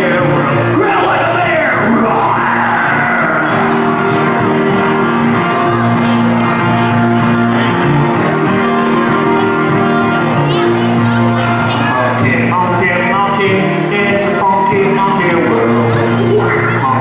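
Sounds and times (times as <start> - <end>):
acoustic guitars strumming: 0.0 - 17.0.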